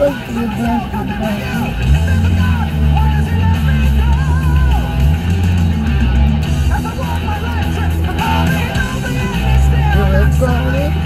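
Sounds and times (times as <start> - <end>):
rock music on car radio: 0.0 - 11.0.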